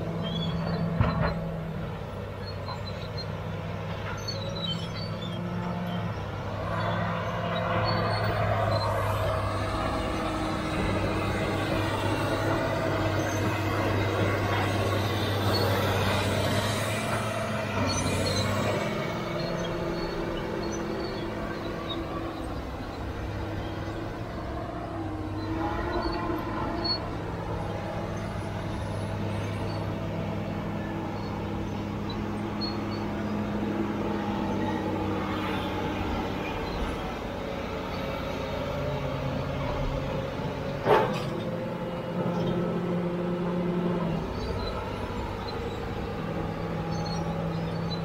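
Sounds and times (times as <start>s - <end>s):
bulldozer diesel engine under load: 0.0s - 48.0s.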